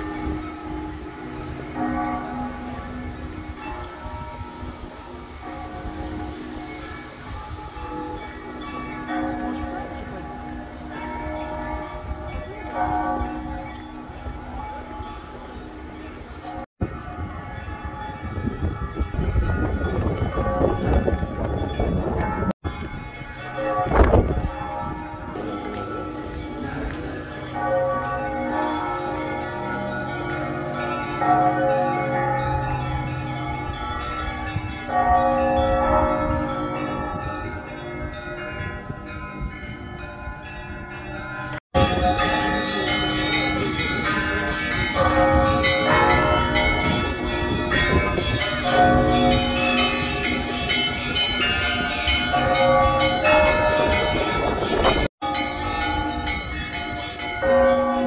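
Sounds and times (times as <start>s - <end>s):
church bells ringing a peal: 0.0s - 58.0s.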